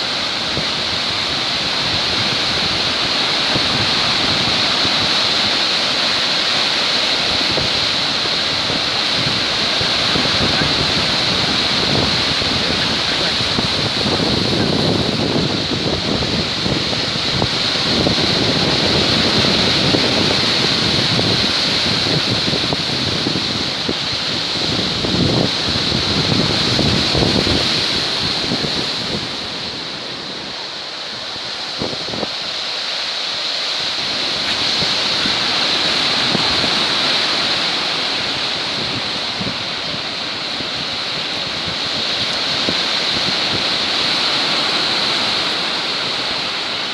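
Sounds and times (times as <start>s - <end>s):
wind buffeting microphone: 0.0s - 6.4s, 7.0s - 32.7s, 33.8s - 46.9s
waves breaking: 0.0s - 46.9s.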